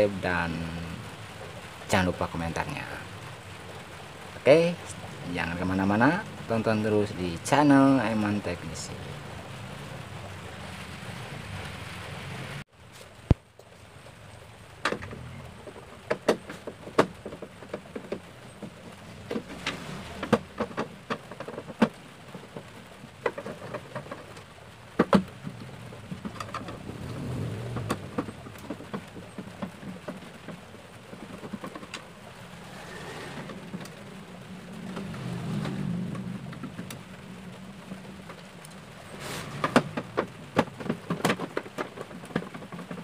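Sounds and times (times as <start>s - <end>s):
light rain: 0.0s - 43.0s.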